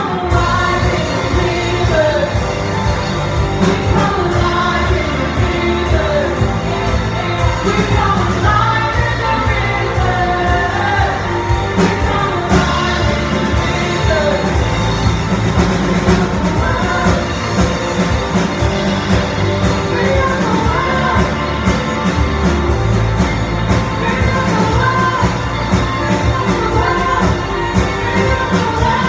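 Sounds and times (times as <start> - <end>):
women singing: 0.0 - 22.4, 23.3 - 29.0
bass guitar: 0.0 - 29.0
drum kit beat: 0.0 - 29.0.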